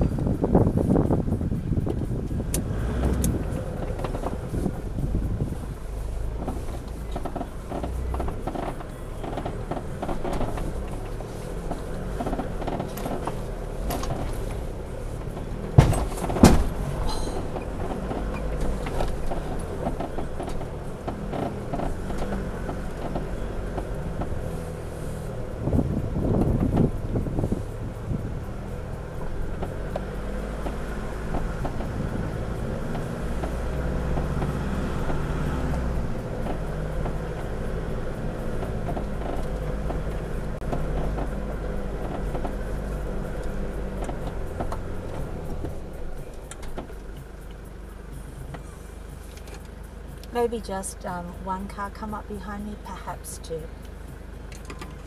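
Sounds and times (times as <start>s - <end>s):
vehicle knocks and rattles: 0.0s - 50.5s, 54.4s - 55.0s
engine running at low revs: 0.0s - 55.0s.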